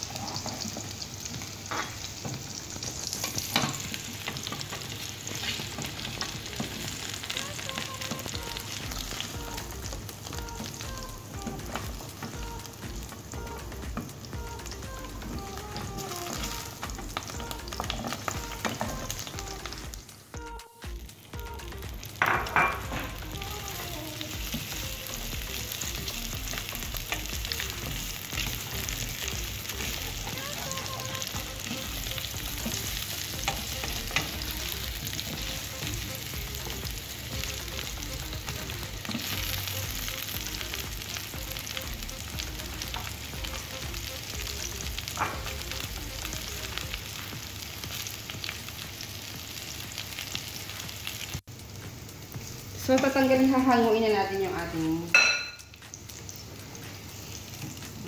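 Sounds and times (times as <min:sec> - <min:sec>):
carrots sizzling in oil: 0:00.0 - 0:58.0.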